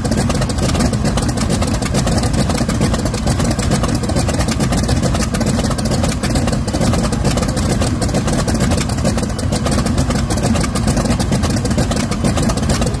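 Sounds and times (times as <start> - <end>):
radial aero engine running: 0.0 - 13.0.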